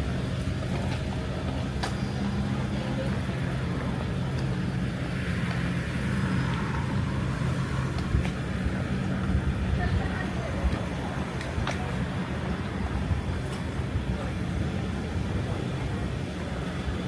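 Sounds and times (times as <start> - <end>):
engine humming: 0.0 - 17.0
street noise: 0.0 - 17.0.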